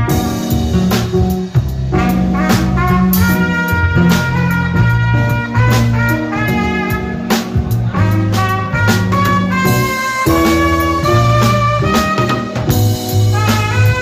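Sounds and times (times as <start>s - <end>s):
bass line: 0.0s - 14.0s
drum kit: 0.0s - 14.0s
keyboard: 0.0s - 14.0s
trumpet melody: 0.0s - 14.0s.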